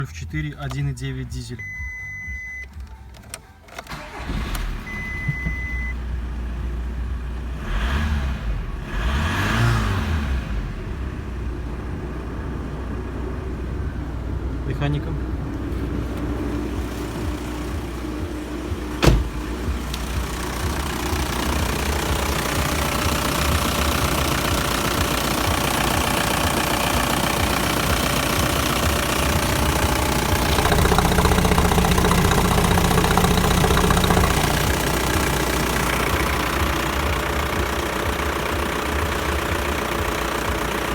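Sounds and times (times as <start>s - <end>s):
diesel engine clattering: 0.0s - 7.4s, 10.8s - 40.9s.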